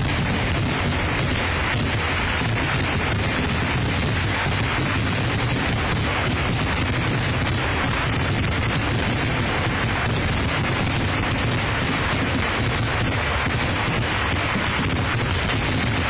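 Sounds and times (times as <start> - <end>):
firecracker blasts: 0.0 - 16.0.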